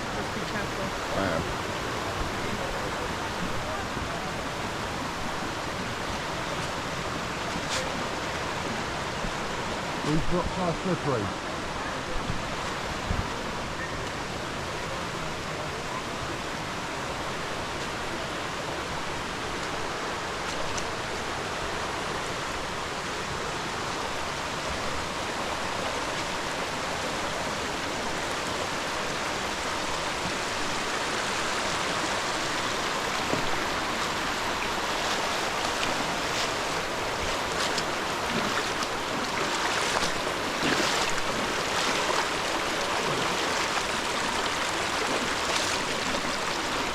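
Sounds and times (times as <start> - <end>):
stream and waterfall rushing: 0.0 - 46.9.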